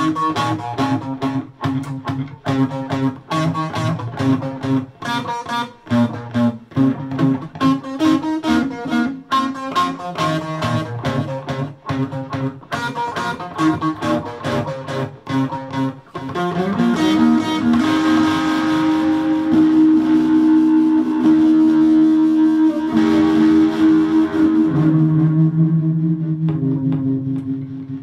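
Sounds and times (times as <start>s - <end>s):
electric guitar playing: 0.0s - 28.0s.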